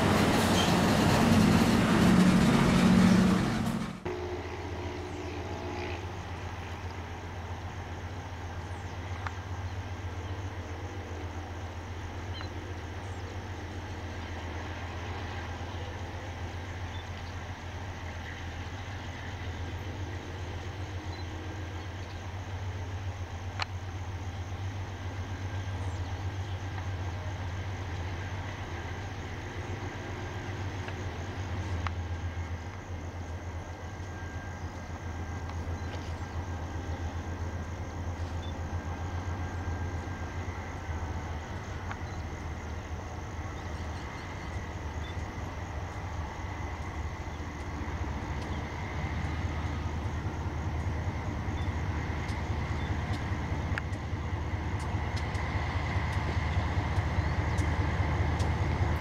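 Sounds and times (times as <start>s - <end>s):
distant diesel locomotives droning: 0.0s - 59.0s
train boxcars rolling past: 0.0s - 59.0s.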